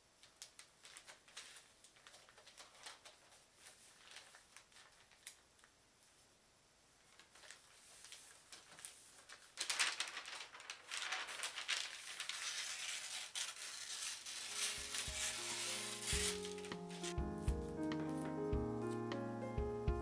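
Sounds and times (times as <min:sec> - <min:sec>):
paper rustling and folding: 0:00.2 - 0:06.2, 0:07.0 - 0:18.4.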